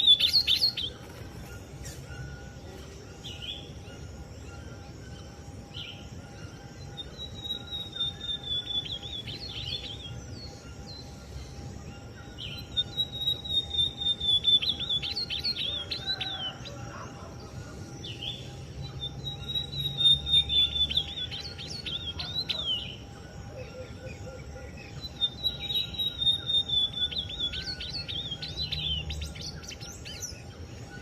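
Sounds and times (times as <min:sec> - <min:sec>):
bird singing: 0:00.0 - 0:31.0.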